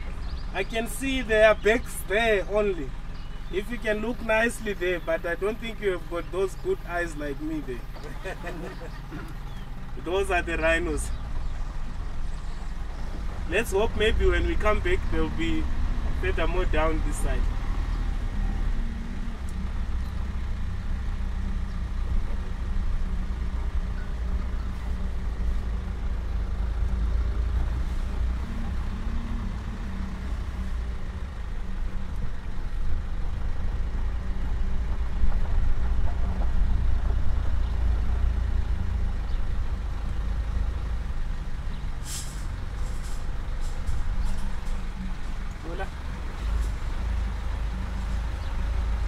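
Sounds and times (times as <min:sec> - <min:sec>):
vehicle engine rumble: 0:00.0 - 0:49.0.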